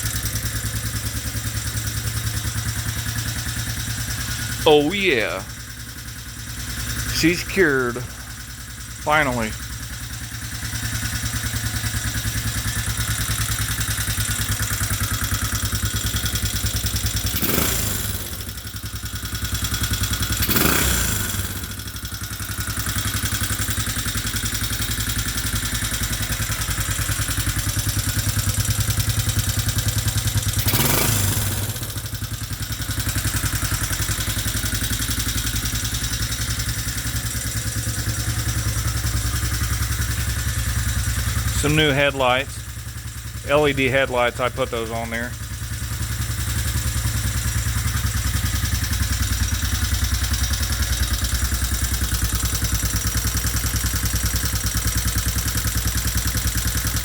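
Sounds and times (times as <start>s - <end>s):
atv engine idling and revving: 0.0s - 57.0s.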